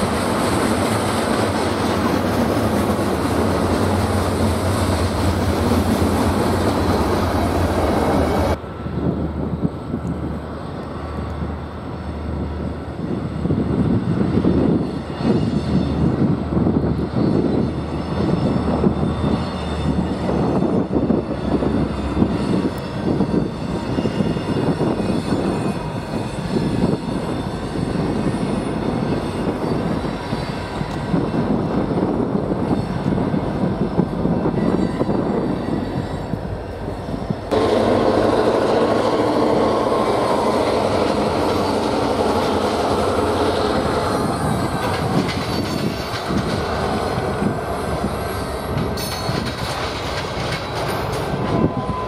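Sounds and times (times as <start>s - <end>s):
diesel locomotive running: 0.0s - 52.0s
freight cars rumbling and clattering: 0.0s - 52.0s.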